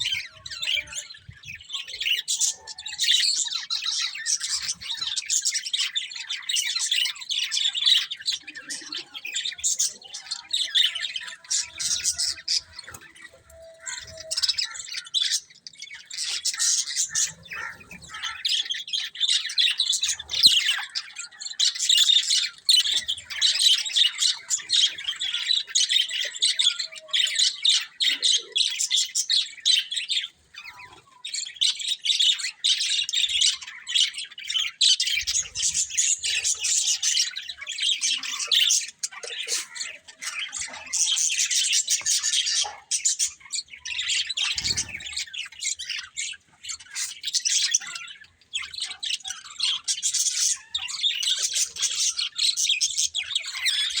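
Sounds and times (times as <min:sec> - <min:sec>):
budgies chattering and chirping: 0:00.0 - 0:54.0.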